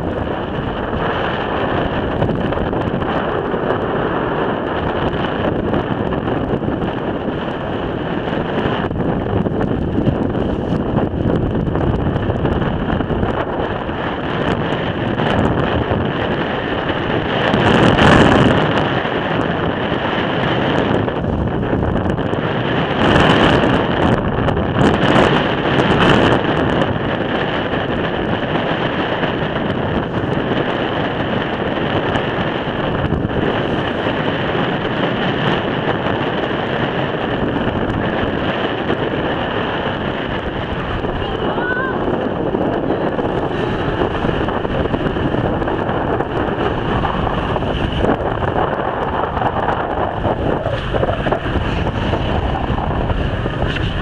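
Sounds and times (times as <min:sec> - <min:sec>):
boat engine running: 0:00.0 - 0:54.0
choppy waves: 0:00.0 - 0:54.0
wind buffeting microphone: 0:00.0 - 0:54.0.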